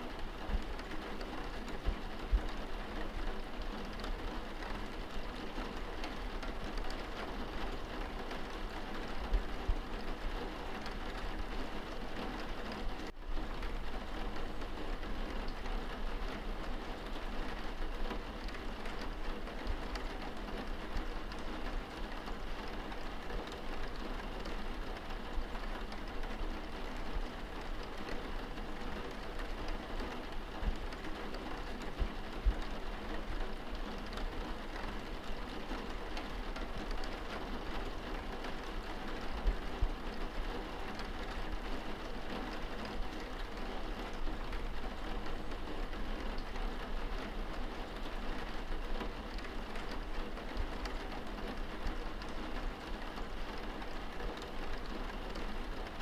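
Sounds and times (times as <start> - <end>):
rain on window glass: 0.0 - 56.0.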